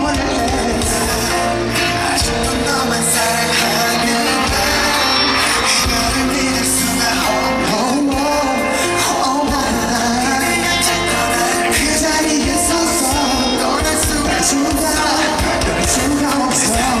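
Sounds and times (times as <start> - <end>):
man singing: 0.0 - 17.0
pop music: 0.0 - 17.0.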